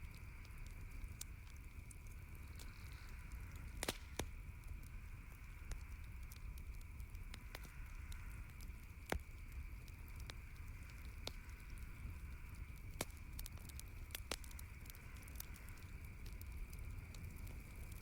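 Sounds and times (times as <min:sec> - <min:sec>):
campfire snaps and pops: 0:00.0 - 0:18.0
fire soft hiss: 0:00.0 - 0:18.0.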